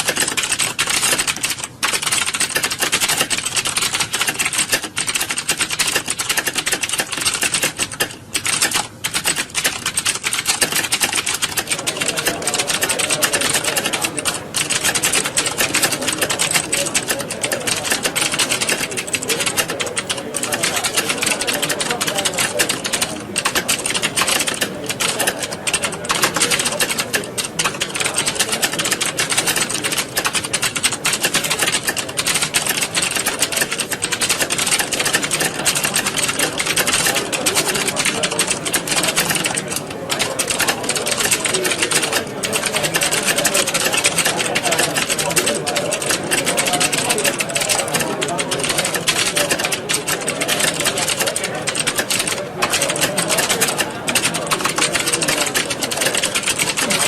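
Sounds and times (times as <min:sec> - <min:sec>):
keyboards typing clatter: 0:00.0 - 0:57.0.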